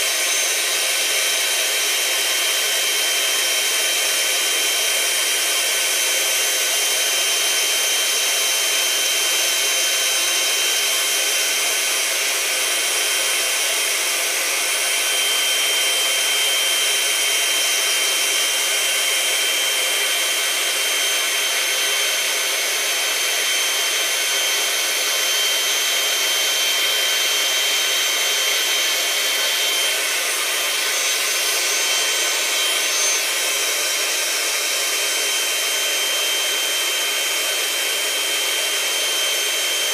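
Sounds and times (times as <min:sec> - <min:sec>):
electric air pump whining: 0:00.0 - 0:39.9.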